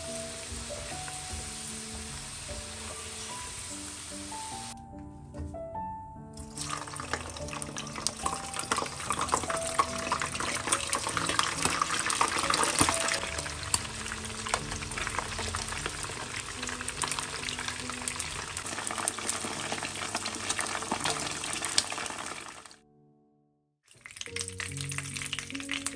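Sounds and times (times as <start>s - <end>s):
chicken sizzling in hot oil: 0.0s - 4.8s, 6.4s - 22.8s, 23.9s - 25.9s
soft background music: 0.0s - 18.8s, 23.9s - 25.9s.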